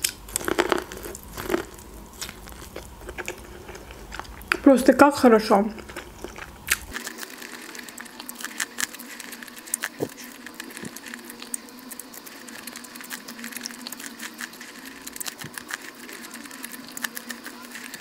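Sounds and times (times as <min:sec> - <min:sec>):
corn on the cob chewed: 0:00.0 - 0:18.0.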